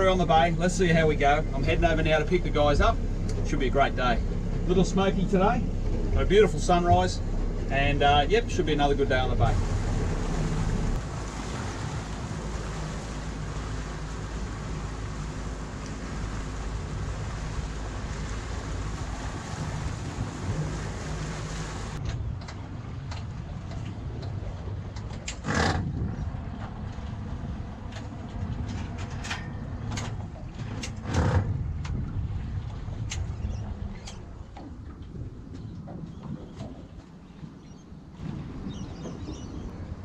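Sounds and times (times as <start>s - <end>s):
boat engine running: 0.0s - 40.0s
rush of wind and water: 0.0s - 40.0s.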